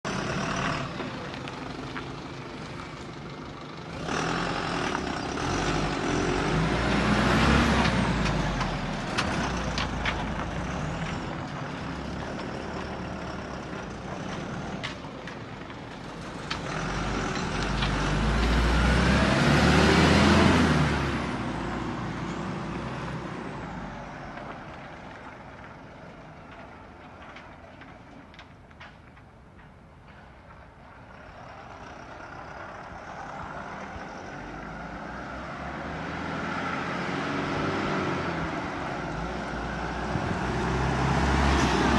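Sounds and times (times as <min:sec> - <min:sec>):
truck diesel engine running: 0:00.0 - 0:27.8, 0:29.6 - 0:36.1.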